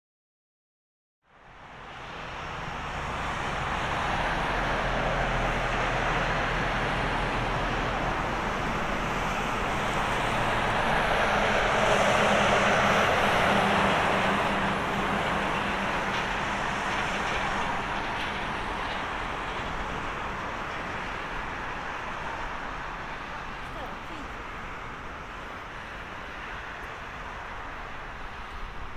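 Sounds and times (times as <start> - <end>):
jet engine roar: 1.9 - 28.9.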